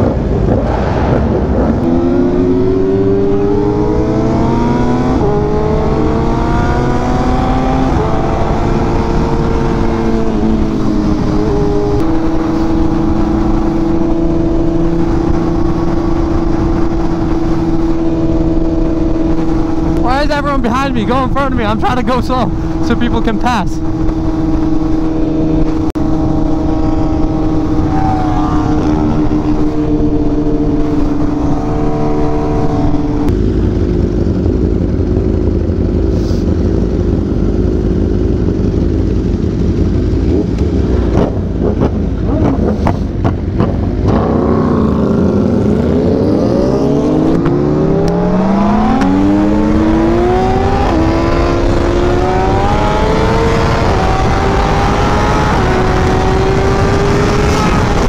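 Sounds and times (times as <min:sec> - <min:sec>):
group of motorcycle engines: 0:00.0 - 0:58.0
motorcycle accelerating with upshifts: 0:00.0 - 0:58.0
motorcycle engine cruising: 0:00.0 - 0:58.0.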